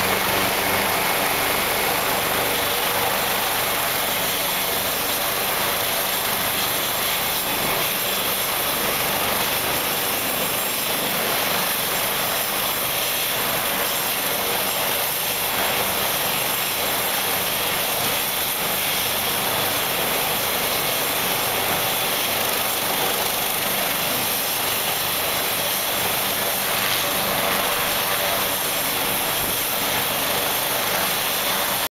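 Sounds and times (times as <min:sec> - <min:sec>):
helicopter turbine whine: 0:00.0 - 0:31.9.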